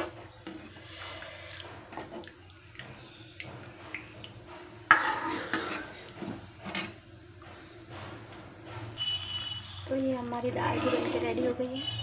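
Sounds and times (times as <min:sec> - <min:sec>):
metal ladle stirring in pan: 0:00.4 - 0:11.9.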